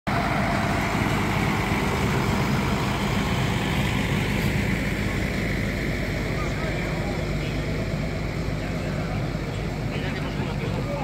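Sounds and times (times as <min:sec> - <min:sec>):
tractor diesel engine running: 0:00.1 - 0:11.0.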